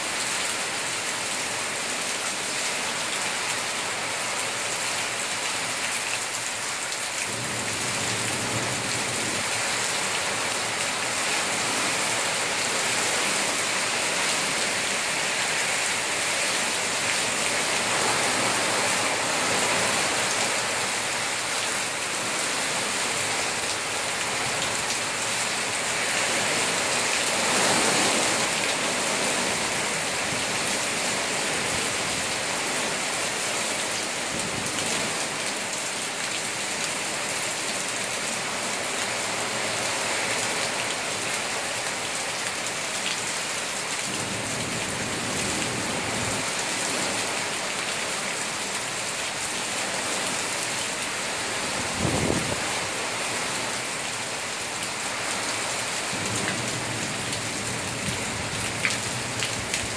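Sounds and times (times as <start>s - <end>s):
heavy wind-driven rain: 0.0s - 59.9s.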